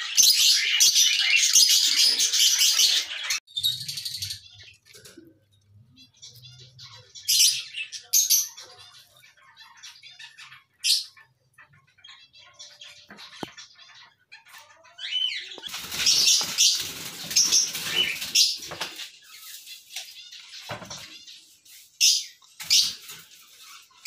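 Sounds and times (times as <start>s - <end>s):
lovebirds chirping: 0.0s - 24.0s.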